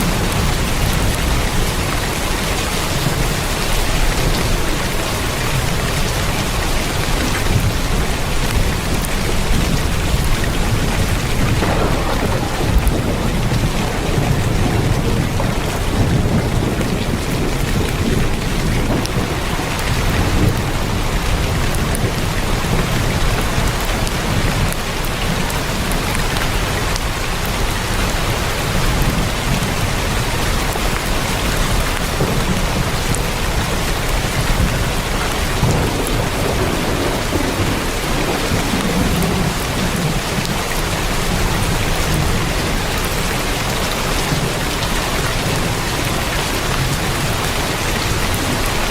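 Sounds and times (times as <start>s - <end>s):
heavy rain on a tin roof: 0.0s - 48.9s.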